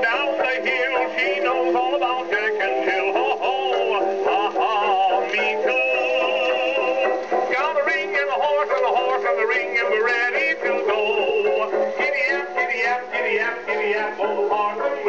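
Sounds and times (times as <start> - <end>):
phonograph record singing: 0.0 - 15.0.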